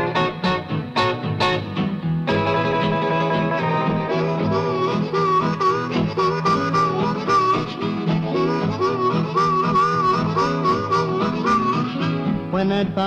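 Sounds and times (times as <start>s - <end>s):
harmonica solo: 0.0s - 1.7s, 2.3s - 12.6s
guitar rhythm: 0.0s - 13.0s.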